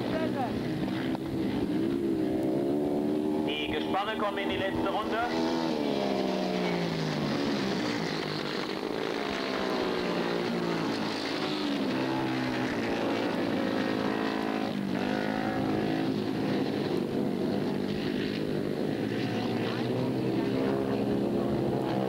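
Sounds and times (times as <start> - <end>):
racing engines running hard: 0.0 - 22.0.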